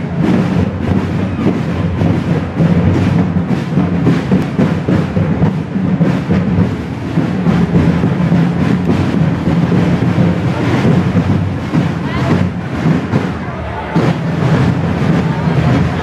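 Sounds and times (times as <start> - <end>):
procession drums beating: 0.0 - 16.0.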